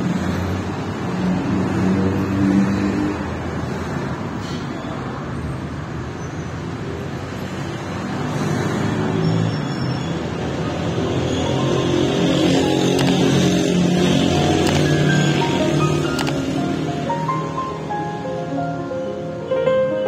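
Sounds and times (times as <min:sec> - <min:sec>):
vehicles passing: 0:00.0 - 0:19.8
city street traffic: 0:00.0 - 0:20.0.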